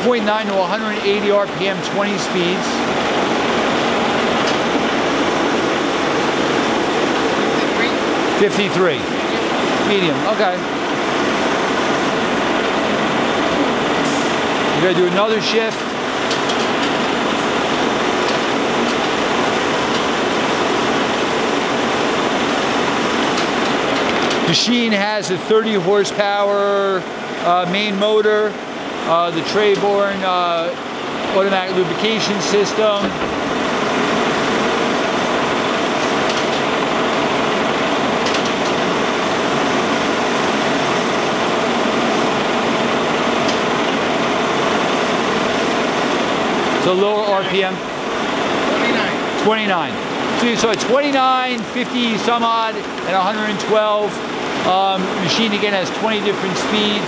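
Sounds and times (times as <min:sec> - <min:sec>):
lathe running with steady whir: 0:00.0 - 0:57.0.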